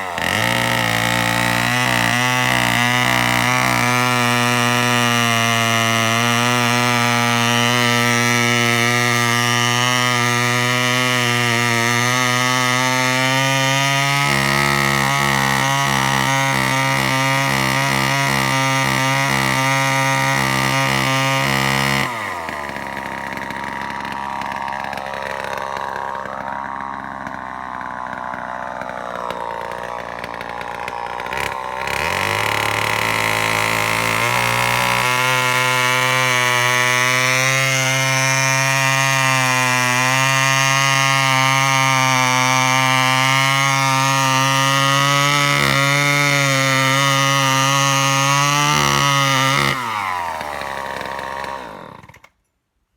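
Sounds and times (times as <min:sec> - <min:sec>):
chainsaw engine revving: 0:00.0 - 0:52.3.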